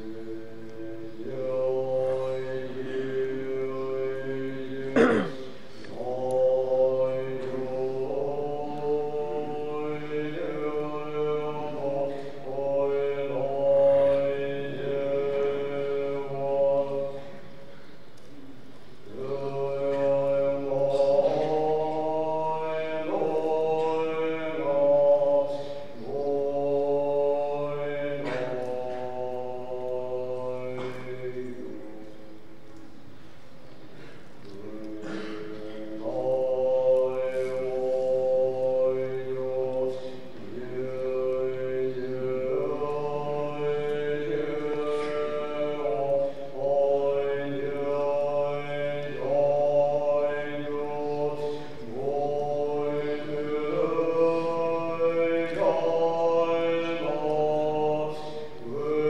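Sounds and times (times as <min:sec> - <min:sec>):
monastic chant with long held notes: 0:00.0 - 0:59.0.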